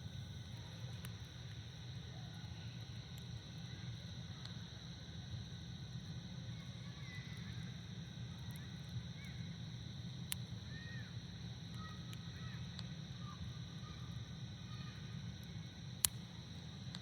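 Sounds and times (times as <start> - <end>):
campfire burning and crackling: 0.0 - 17.0.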